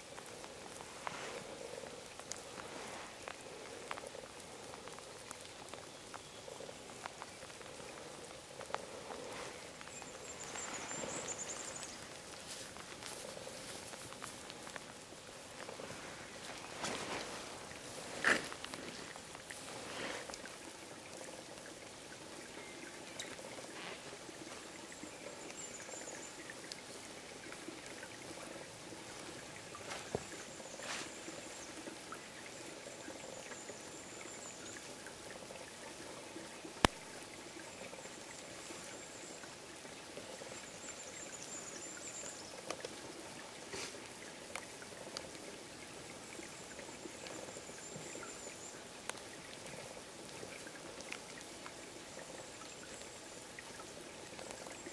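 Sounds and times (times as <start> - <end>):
rain falling and dripping: 0.0 - 54.9.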